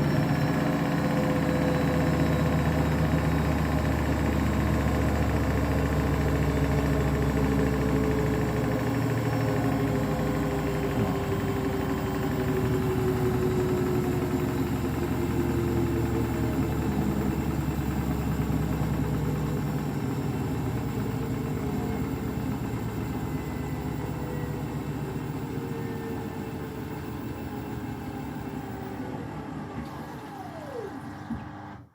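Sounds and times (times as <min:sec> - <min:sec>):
washing machine motor whine: 0:00.0 - 0:31.9.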